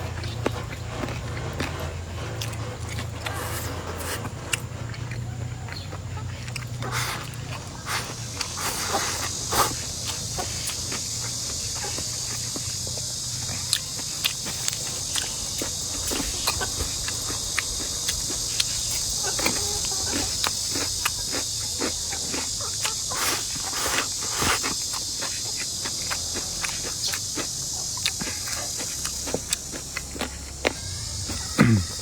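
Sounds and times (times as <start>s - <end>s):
insects chorus: 0.0s - 32.0s
person chewing: 0.0s - 32.0s.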